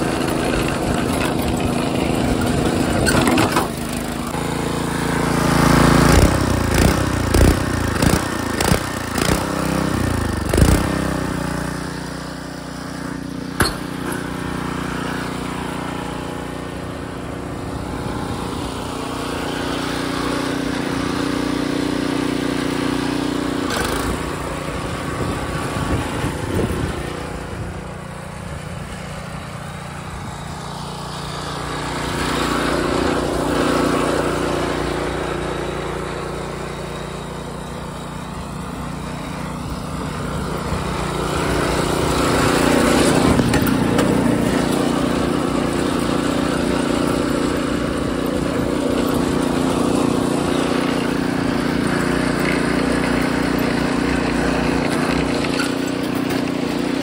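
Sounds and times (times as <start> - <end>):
garden tractor engine running: 0.0 - 57.0.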